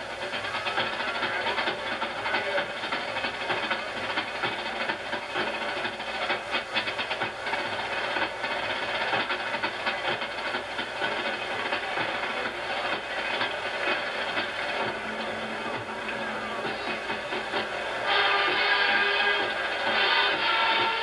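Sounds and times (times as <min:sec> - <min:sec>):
fast even clatter: 0:00.0 - 0:21.0
steady hissing noise: 0:00.0 - 0:21.0.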